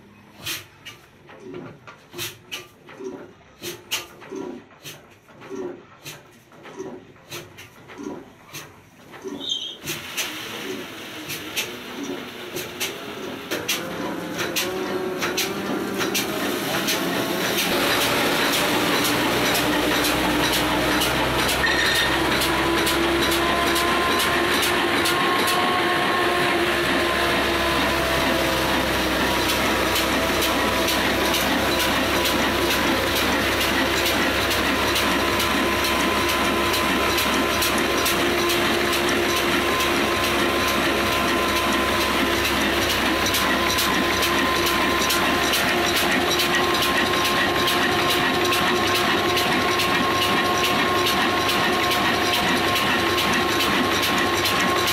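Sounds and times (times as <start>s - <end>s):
diesel engine clattering: 0.4s - 54.9s.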